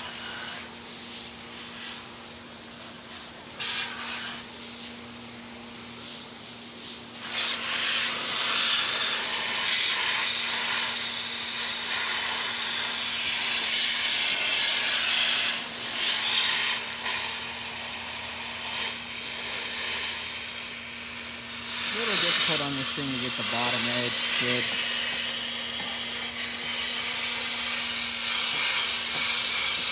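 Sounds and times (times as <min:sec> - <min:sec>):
water jet spraying radiator: 0:00.0 - 0:29.9.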